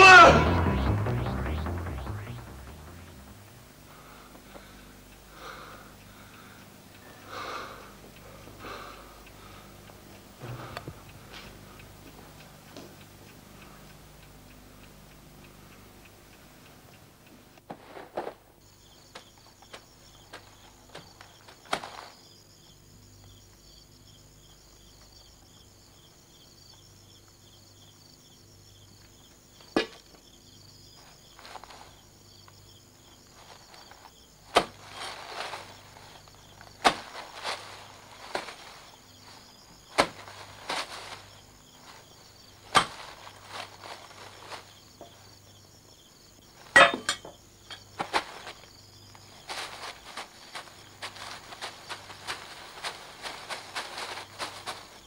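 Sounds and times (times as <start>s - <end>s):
crickets chirping: 3.2s - 17.6s, 18.3s - 55.0s.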